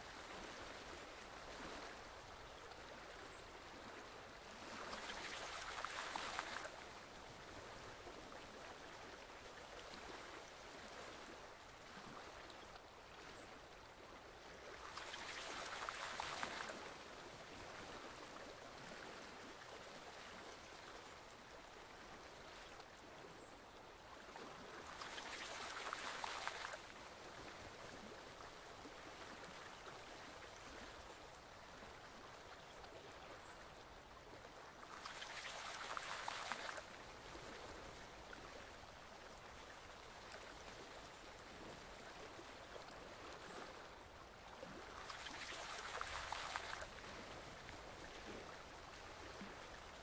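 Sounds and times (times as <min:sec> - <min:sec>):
forest stream flowing: 0:00.0 - 0:50.0.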